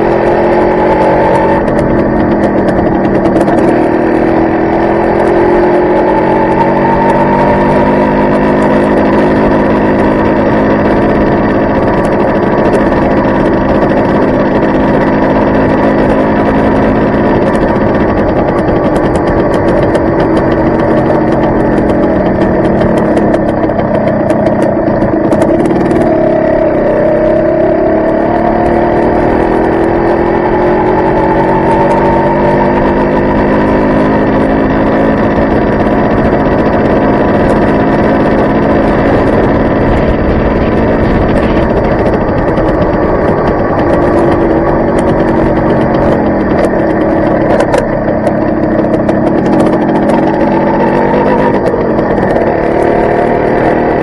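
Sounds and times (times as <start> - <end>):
motorcycle two-stroke engine: 0.0 - 54.0.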